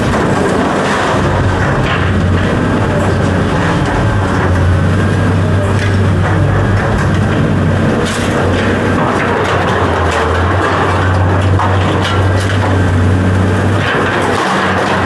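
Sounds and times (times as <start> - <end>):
heavy equipment engine humming: 0.0 - 15.0
knocks and clanks: 0.0 - 15.0.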